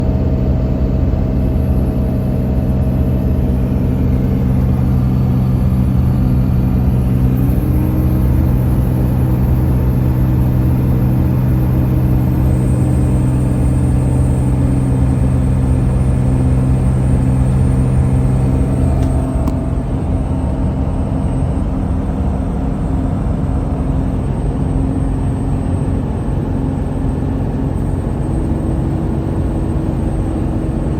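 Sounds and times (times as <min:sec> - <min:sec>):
car engine buzzing hum: 0:00.0 - 0:30.9.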